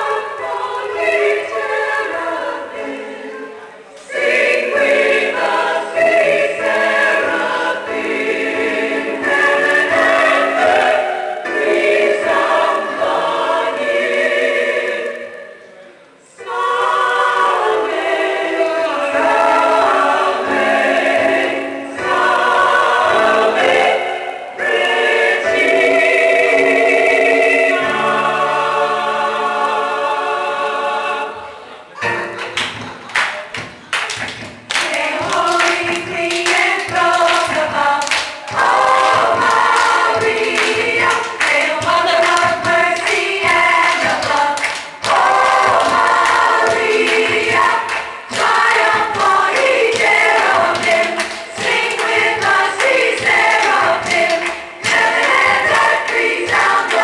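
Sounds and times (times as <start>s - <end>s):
choir singing a hymn: 0.0s - 33.6s, 34.6s - 57.0s.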